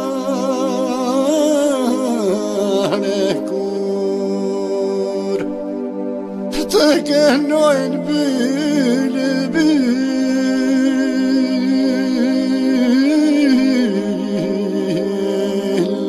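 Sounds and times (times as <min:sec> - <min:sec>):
man singing melismatic line: 0:00.0 - 0:05.5, 0:06.5 - 0:16.0.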